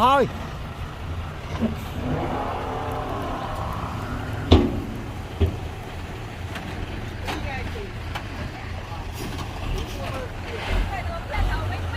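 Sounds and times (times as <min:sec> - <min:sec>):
heavy diesel engine running: 0:00.0 - 0:11.9.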